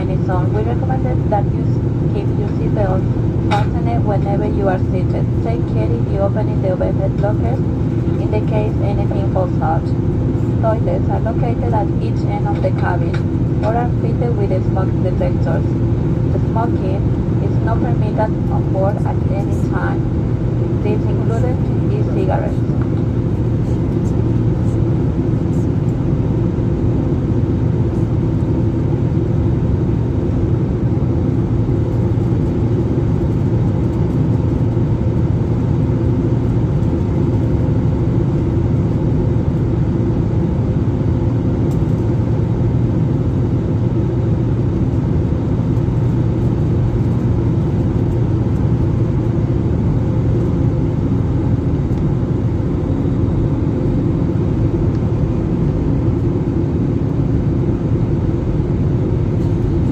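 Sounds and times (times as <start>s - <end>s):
aircraft cabin engine drone: 0.0s - 59.9s.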